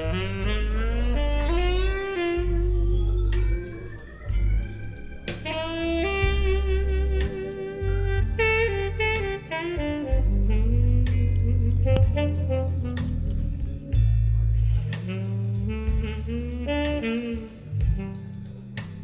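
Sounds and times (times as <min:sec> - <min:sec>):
jazz music through loudspeakers: 0:00.0 - 0:19.0.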